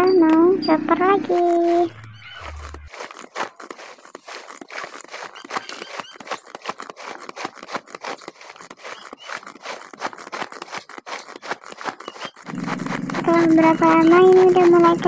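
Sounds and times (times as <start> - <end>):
manual food chopper clattering: 1.2 - 15.0.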